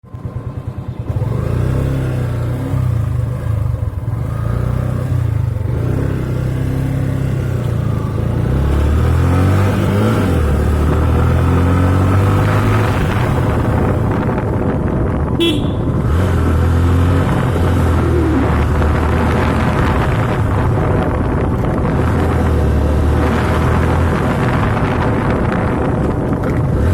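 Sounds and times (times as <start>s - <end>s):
motorcycle engine revving: 0.1s - 26.9s.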